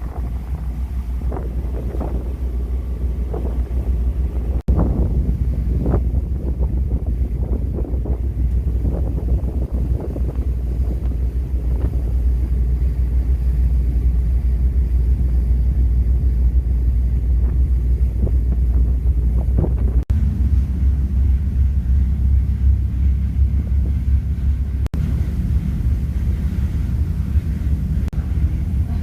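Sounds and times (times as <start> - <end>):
ferry engines rumbling: 0.0 - 29.0
wind buffeting microphone: 0.0 - 29.0.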